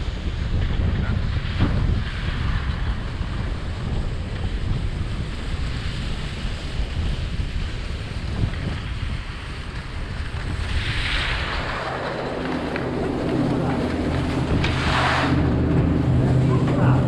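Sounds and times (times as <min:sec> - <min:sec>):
skis sliding on snow: 0:00.0 - 0:16.9
wind rumbling on microphone: 0:00.0 - 0:17.0.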